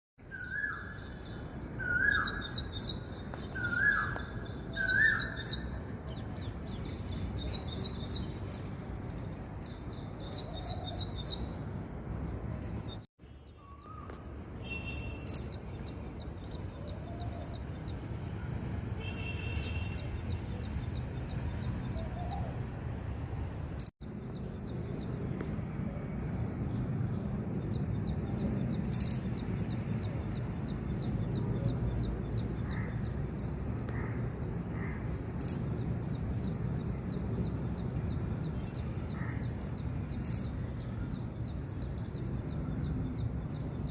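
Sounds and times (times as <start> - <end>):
birds chirping and trilling: 0.2 - 25.7, 26.3 - 43.9.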